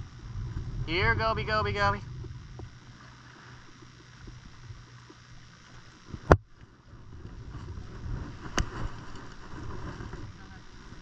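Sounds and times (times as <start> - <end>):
low wind rumble: 0.0 - 11.0
water lapping against pier: 1.7 - 11.0.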